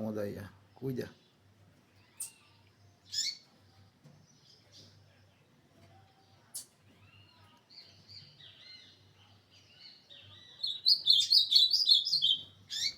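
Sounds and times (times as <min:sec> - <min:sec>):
bird singing warbled song: 0:00.0 - 0:12.9.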